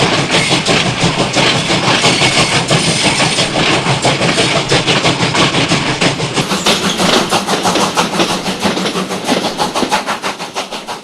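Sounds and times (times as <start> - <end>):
steam train running: 0.0 - 11.0.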